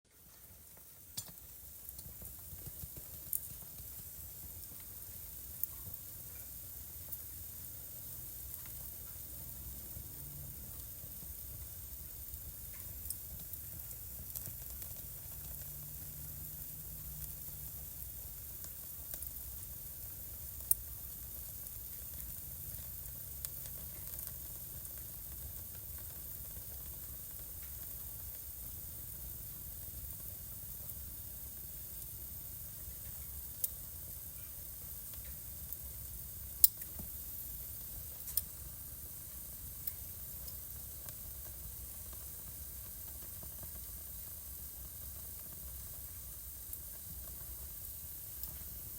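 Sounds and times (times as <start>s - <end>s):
wood fire crackling: 0.1s - 48.9s.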